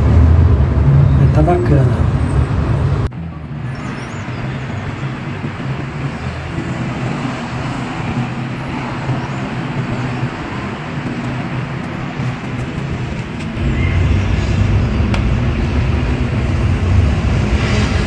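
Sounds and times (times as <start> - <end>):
engines humming: 0.0 - 18.0
street traffic noise: 0.0 - 18.0.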